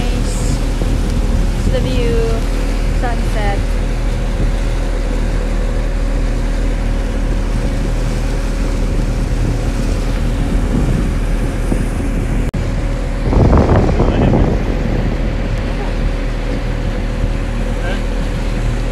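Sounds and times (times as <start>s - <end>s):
outboard motor running: 0.0s - 18.9s
wind noise on microphone: 0.0s - 18.9s.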